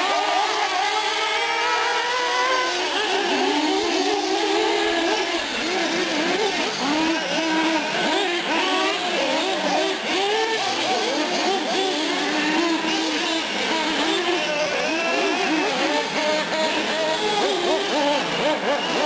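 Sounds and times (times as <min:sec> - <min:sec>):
rc car engines whining: 0:00.0 - 0:19.0.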